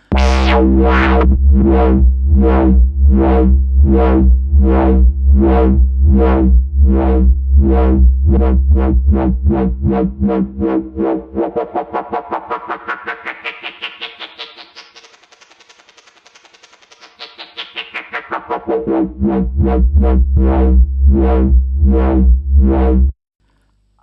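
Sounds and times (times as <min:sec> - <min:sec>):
wobbling synthesizer bass: 0:00.0 - 0:14.2, 0:18.2 - 0:23.2.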